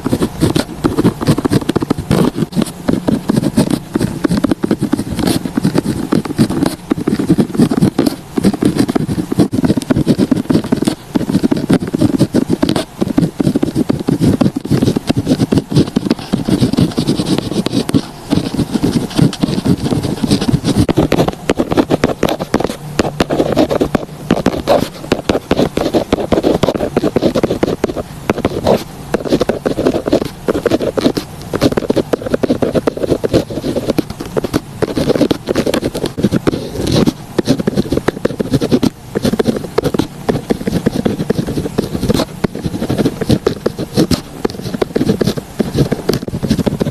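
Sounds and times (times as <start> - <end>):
pen scratching on paper: 0.0 - 46.9.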